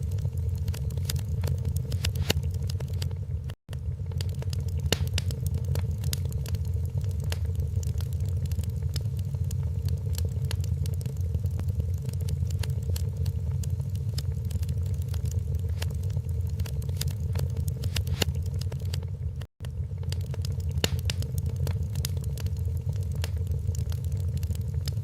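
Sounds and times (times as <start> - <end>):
low rumble of fire: 0.0 - 25.0
wood fire crackling: 0.0 - 25.0.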